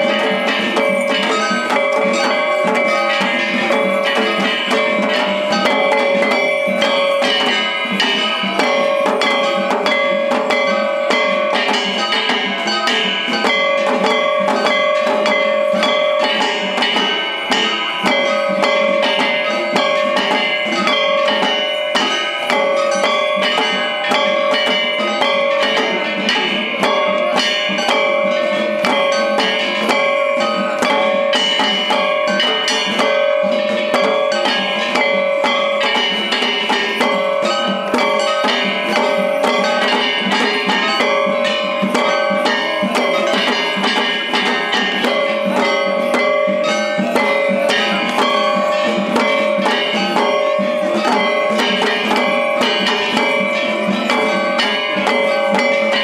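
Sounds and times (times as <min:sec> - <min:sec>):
ringing metallic tones: 0:00.0 - 0:56.0
taiko drums fast rhythm: 0:00.0 - 0:56.0.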